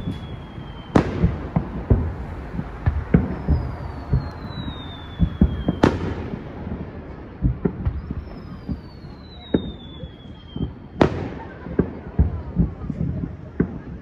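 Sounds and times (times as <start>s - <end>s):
falling firework whistle: 0.0s - 13.9s
distant firework thuds: 0.0s - 14.0s
loud firework bang: 0.0s - 14.0s.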